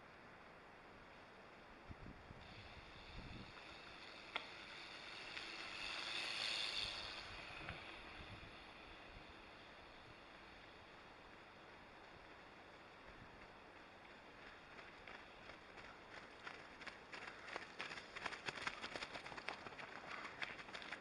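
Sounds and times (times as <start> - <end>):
bicycle tyres on gravel: 1.5 - 21.0.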